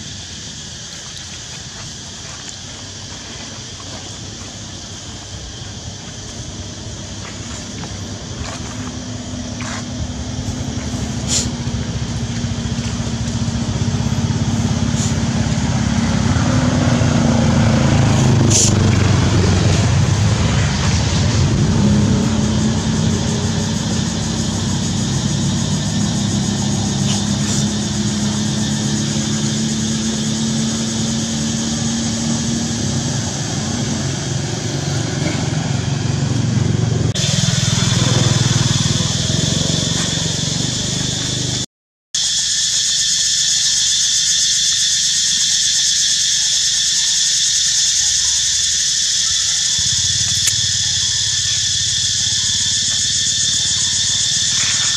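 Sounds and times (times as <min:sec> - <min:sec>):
motor engine running: 0:01.4 - 0:41.7, 0:47.9 - 0:54.9.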